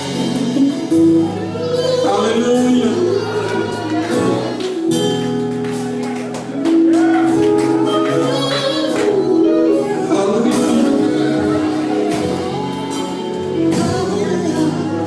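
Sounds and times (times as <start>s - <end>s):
sustained instrumental backing: 0.0s - 15.0s
voices singing gospel: 0.0s - 15.0s.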